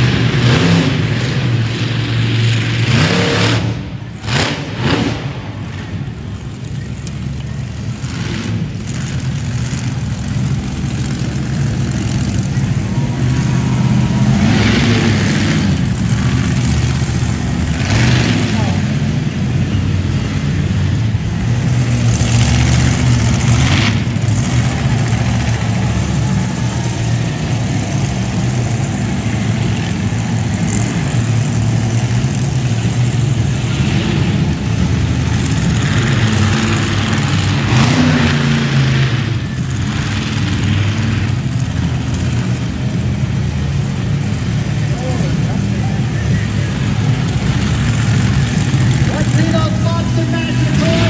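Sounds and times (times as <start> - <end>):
monster truck engine revving: 0.0 - 51.0.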